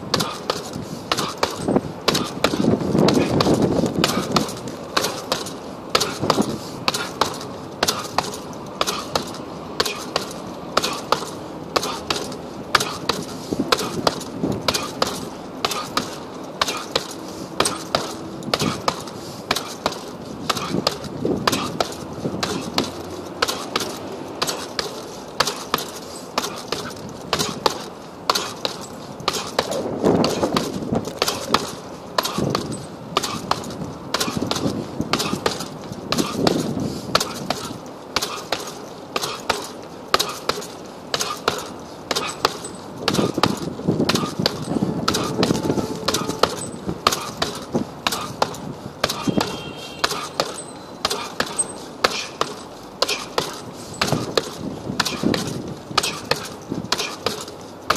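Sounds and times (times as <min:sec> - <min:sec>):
punches thudding on heavy bag: 0:00.0 - 0:57.9.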